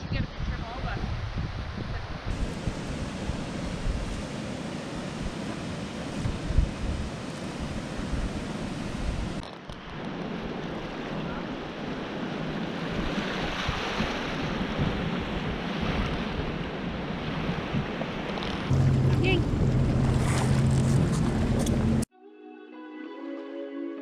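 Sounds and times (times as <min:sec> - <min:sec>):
wind on microphone: 0:00.0 - 0:22.1
waves washing onto beach: 0:00.4 - 0:22.0.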